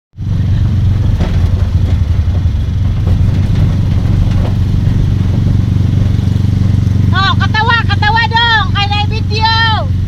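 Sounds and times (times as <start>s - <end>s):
road noise: 0.2s - 10.0s
vehicle engine rumble: 0.2s - 10.0s.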